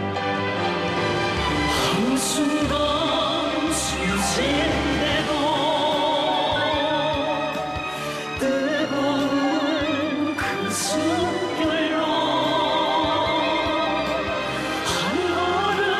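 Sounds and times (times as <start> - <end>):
operatic singing: 0.0 - 15.9
orchestral strings: 0.0 - 15.9.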